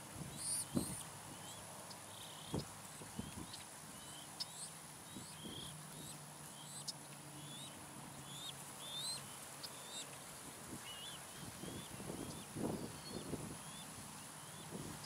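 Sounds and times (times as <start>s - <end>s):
crane chicks peeping: 0.3s - 15.0s.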